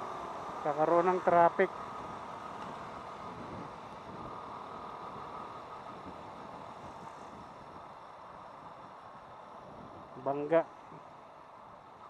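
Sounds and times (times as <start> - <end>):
motorcycle wind and road noise: 0.0 - 11.9.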